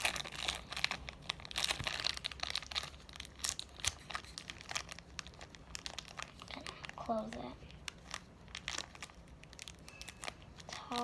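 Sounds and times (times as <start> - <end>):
slime crinkling and crackling: 0.0 - 11.0.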